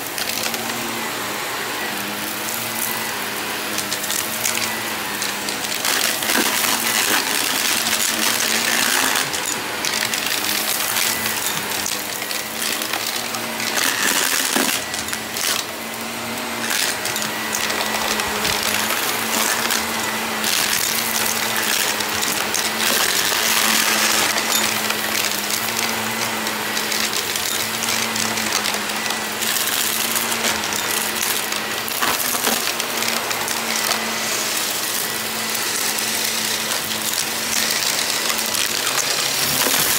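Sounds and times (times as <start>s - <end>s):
debris clicking in vacuum: 0.0s - 0.9s, 1.9s - 39.9s
vacuum cleaner running: 0.0s - 39.9s.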